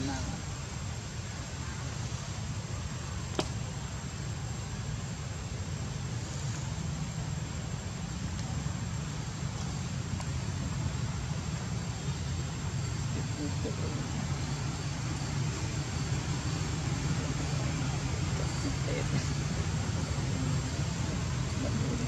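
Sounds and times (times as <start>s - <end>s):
steady low rumbling: 0.0s - 22.0s.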